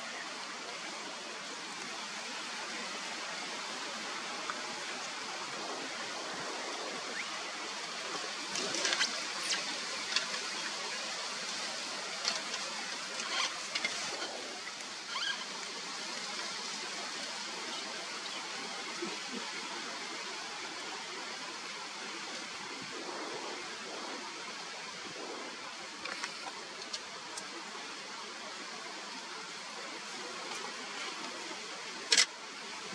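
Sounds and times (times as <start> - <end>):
steady outdoor hiss: 0.0 - 32.9.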